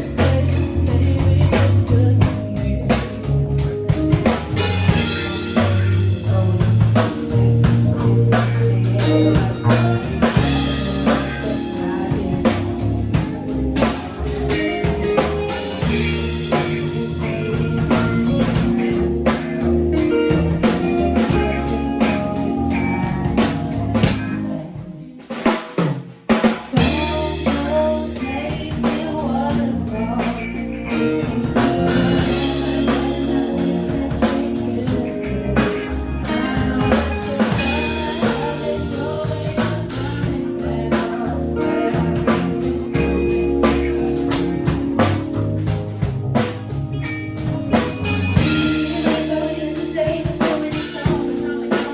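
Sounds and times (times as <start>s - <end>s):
drum kit beat: 0.0s - 24.5s, 25.2s - 51.9s
rock band music: 0.0s - 51.9s.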